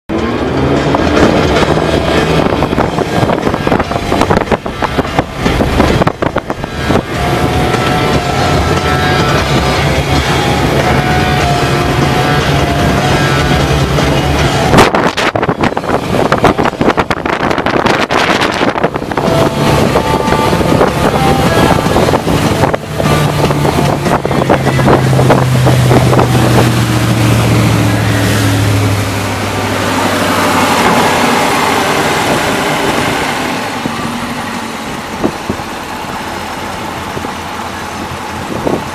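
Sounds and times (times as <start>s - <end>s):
boat engine running: 0.1s - 38.9s
wind buffeting microphone: 0.2s - 36.3s, 36.9s - 38.9s.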